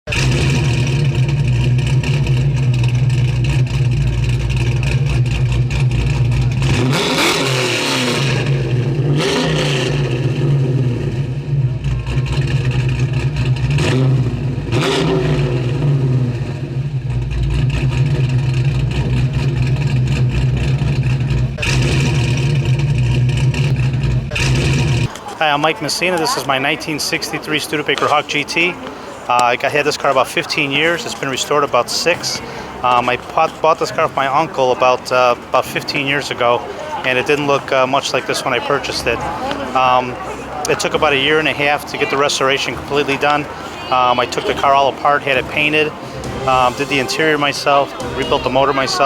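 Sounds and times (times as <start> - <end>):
car engine idling and revving: 0.0 - 25.3, 27.3 - 49.0.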